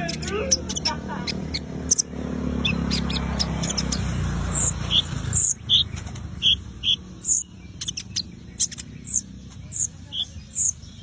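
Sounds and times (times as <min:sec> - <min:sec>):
bird chirping song: 0:00.0 - 0:11.0.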